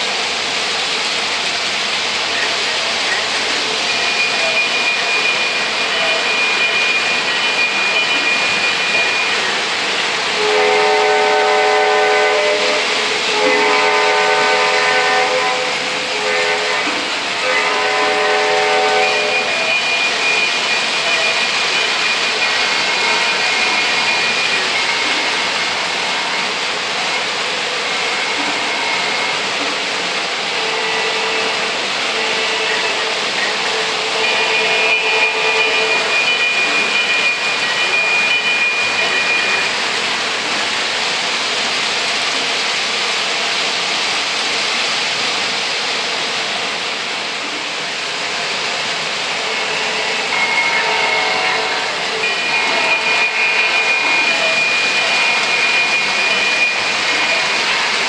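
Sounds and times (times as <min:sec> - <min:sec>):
model trains rolling on track: 0:00.0 - 0:58.0.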